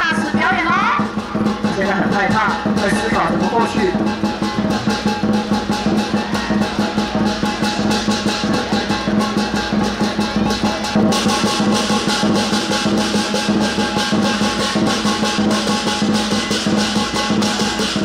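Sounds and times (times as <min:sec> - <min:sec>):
big drum beating: 0:00.0 - 0:18.0
cymbals crashing: 0:00.0 - 0:18.0.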